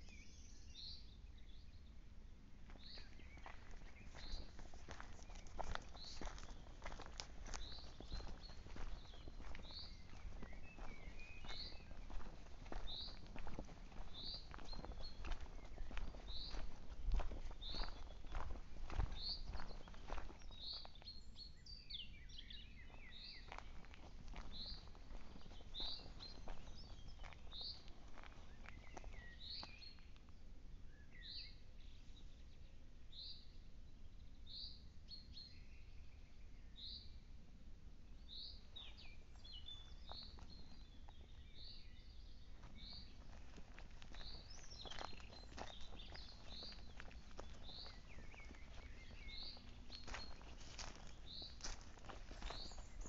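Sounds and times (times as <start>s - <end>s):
birds twittering: 2.7s - 37.1s, 38.2s - 53.0s.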